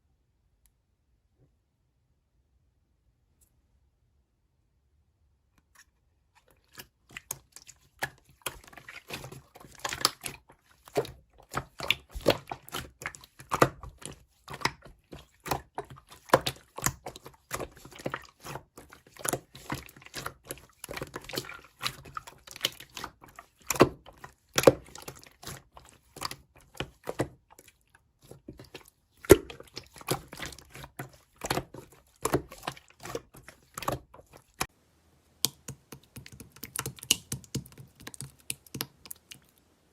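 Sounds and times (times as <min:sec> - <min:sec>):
slime squished by hand: 0:06.7 - 0:34.7, 0:35.4 - 0:39.6.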